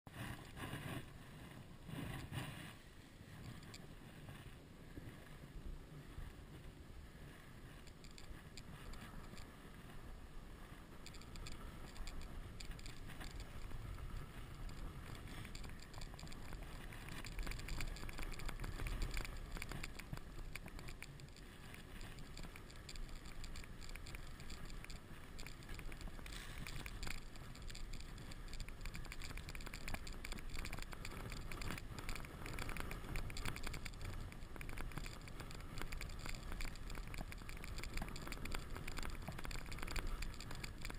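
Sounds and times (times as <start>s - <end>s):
snow crackles and bumps: 0.1s - 40.9s.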